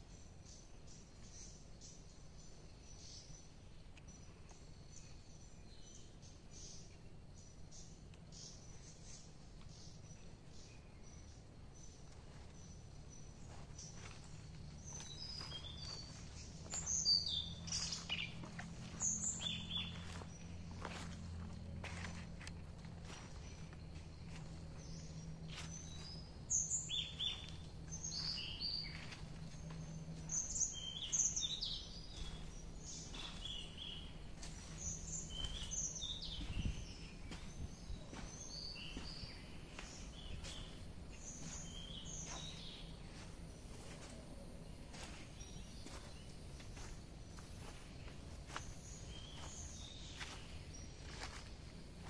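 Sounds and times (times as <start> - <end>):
forest birds chirping: 0.0 - 52.0
low steady hum: 0.0 - 52.0.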